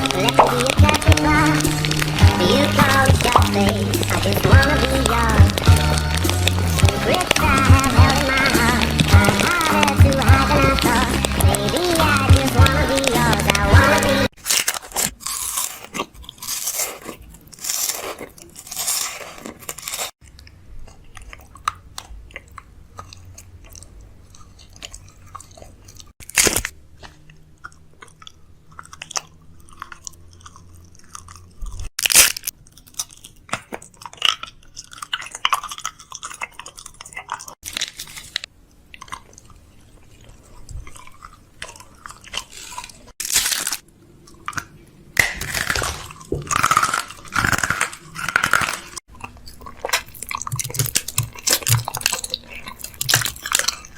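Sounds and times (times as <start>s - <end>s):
crunching and crackling: 0.0s - 53.9s.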